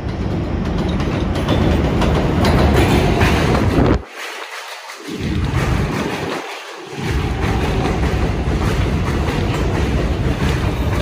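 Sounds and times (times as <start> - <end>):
subway train running past: 0.0 - 11.0.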